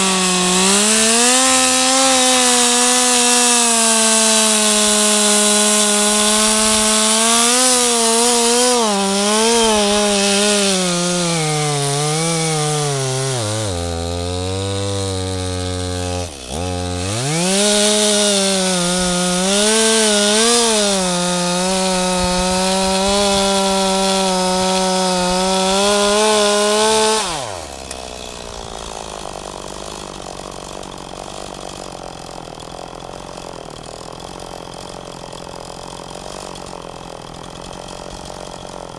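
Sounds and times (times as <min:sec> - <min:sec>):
two-stroke chainsaw revving: 0:00.0 - 0:38.9.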